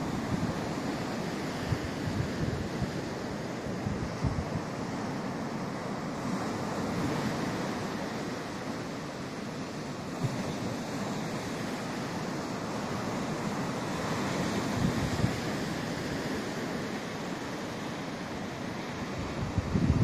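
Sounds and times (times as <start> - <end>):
wind gusts on microphone: 0.0 - 8.4, 10.1 - 20.0
surf washing up beach: 0.0 - 20.0.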